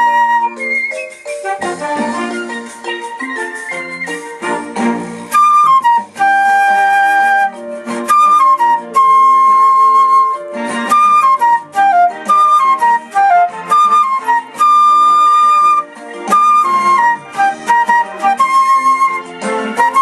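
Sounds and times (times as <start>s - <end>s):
flute melody: 0.0s - 20.0s
lower accompaniment: 0.0s - 20.0s.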